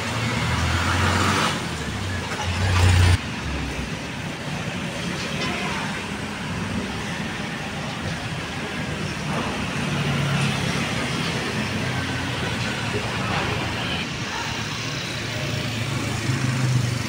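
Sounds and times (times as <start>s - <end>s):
steady road noise: 0.0s - 17.0s
vehicle engines passing: 0.0s - 17.0s.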